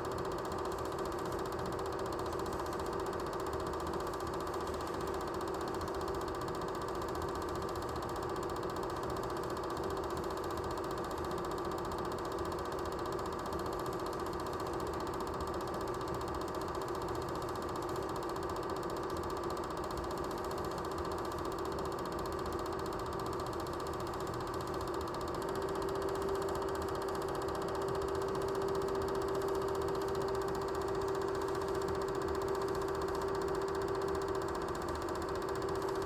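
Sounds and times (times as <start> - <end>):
mechanical whirring hum: 0.0 - 36.0.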